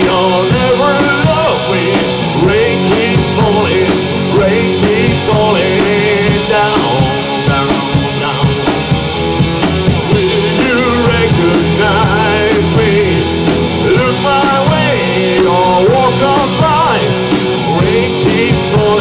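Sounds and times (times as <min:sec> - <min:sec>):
drum kit with cymbal strokes: 0:00.0 - 0:19.0
electric guitars: 0:00.0 - 0:19.0.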